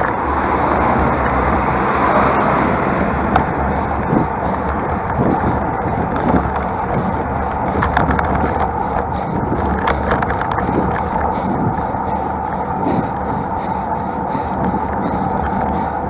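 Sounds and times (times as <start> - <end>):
bike clicks and rattles: 0.0 - 16.0
road and wind noise: 0.0 - 16.0.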